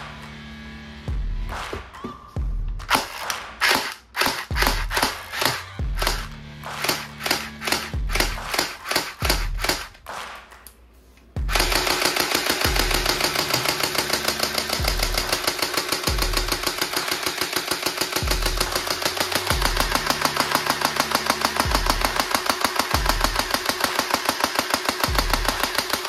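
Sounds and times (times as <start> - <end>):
background music: 0.0 - 26.0
automatic gunfire sound effect: 2.8 - 10.4, 11.4 - 26.0.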